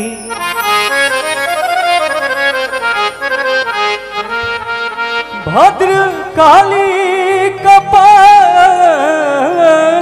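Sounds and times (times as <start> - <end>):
reedy keyboard instrument melody: 0.0 - 10.0.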